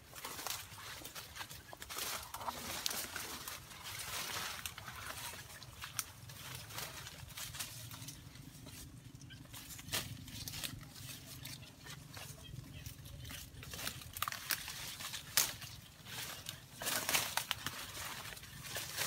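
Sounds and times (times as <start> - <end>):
leaves and twigs rustling: 0.0 - 19.0
twigs crackling and snapping: 0.0 - 19.0.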